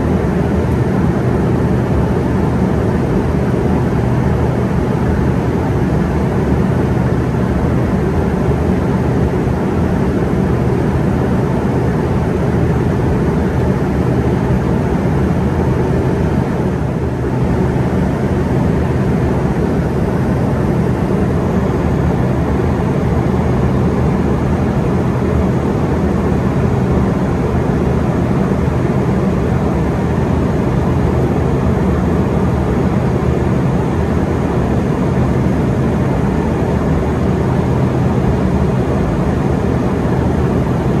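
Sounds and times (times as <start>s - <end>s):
airplane cabin engine drone: 0.0s - 41.0s.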